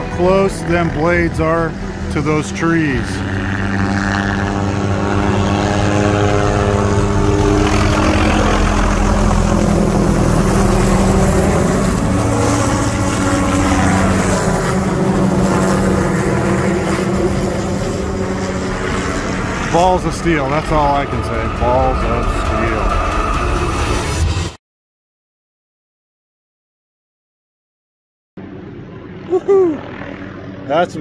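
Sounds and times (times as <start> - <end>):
helicopter passing overhead: 0.0 - 24.6, 28.4 - 31.0.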